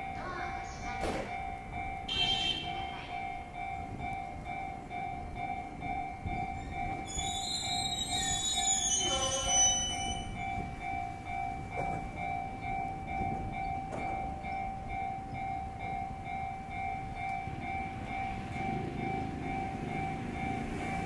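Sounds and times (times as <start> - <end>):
level crossing bell ringing: 0.0 - 21.0
train rumbling on tracks: 0.0 - 21.0.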